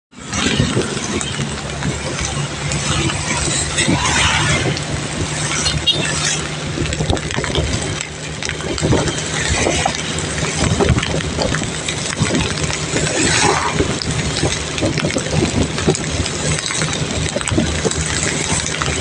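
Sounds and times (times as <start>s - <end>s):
rain falling and dripping: 0.1s - 19.0s.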